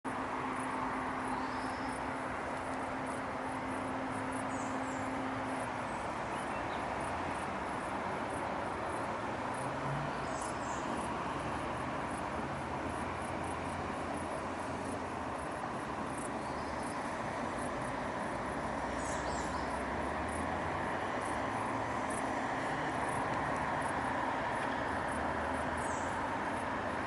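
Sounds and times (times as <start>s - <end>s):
distant city traffic hum: 0.0s - 27.0s.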